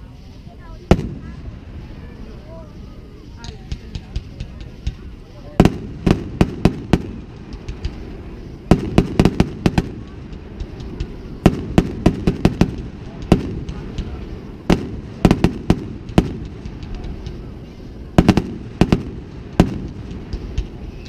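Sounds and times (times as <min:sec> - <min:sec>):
fireworks bangs and crackles: 0:00.6 - 0:21.0.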